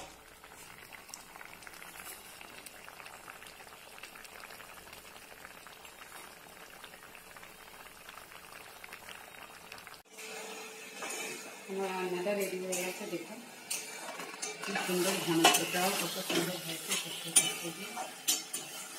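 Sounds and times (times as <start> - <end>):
curry boiling with bubbling pops: 0.0 - 10.1, 13.7 - 18.9.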